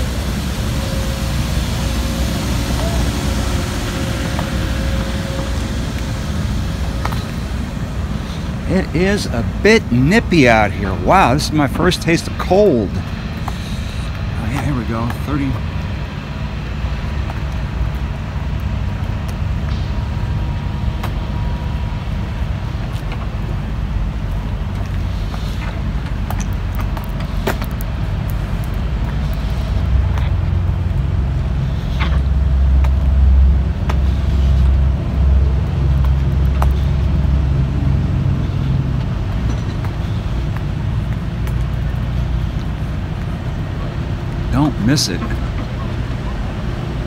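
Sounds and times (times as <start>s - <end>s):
diesel locomotives idling: 0.0s - 47.0s.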